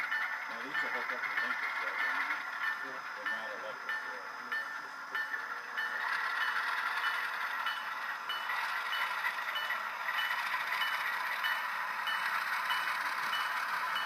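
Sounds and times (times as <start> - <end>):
model train wheels clattering: 0.0 - 14.0.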